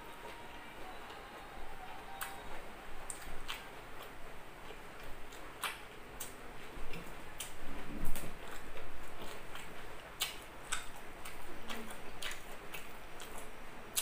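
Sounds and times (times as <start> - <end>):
close chewing: 0.0 - 14.0.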